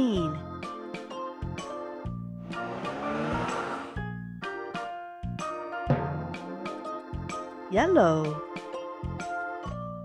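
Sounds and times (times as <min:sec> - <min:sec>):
jingly children's music: 0:00.0 - 0:10.0.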